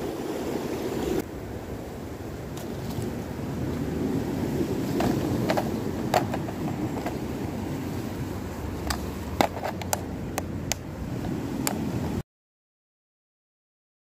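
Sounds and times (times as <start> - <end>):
low outdoor rumble: 0.0 - 12.2.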